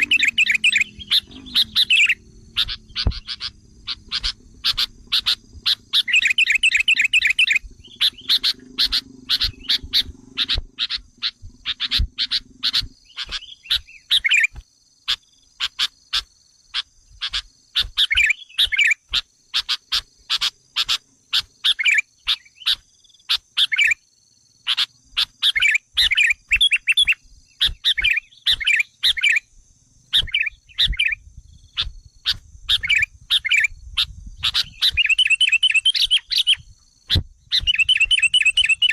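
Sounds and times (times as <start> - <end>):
bird chattering calls: 0.0 - 24.0, 24.7 - 29.4, 30.1 - 38.9.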